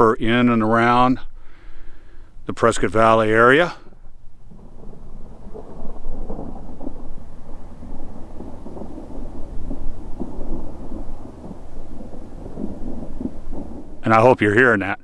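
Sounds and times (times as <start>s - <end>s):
thunder rumbling: 2.5s - 15.0s.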